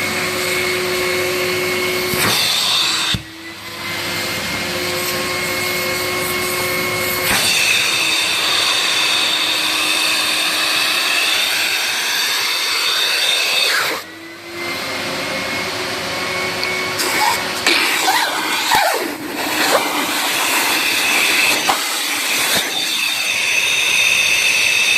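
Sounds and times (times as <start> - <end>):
vacuum cleaner whine: 0.0 - 24.9.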